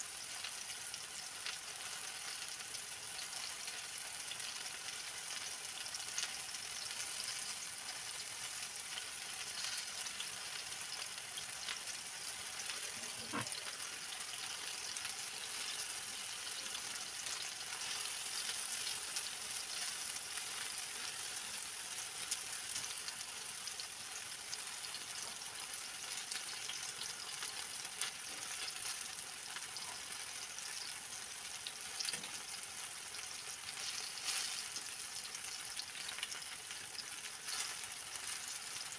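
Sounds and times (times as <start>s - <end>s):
frying oil sizzling: 0.0s - 38.9s.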